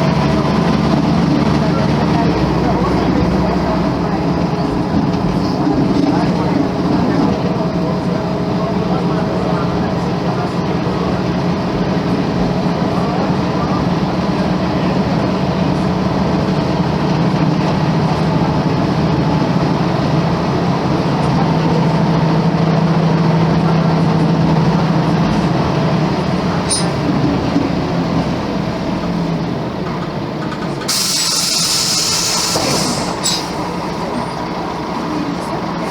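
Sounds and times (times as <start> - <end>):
bus diesel engine drone: 0.0 - 35.9.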